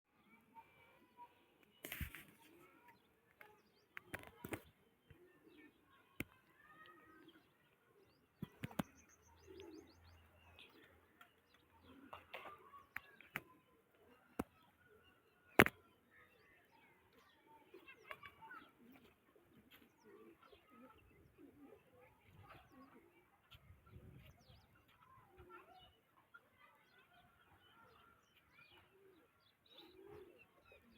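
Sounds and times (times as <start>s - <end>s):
birds chirping and calling: 1.6s - 30.9s.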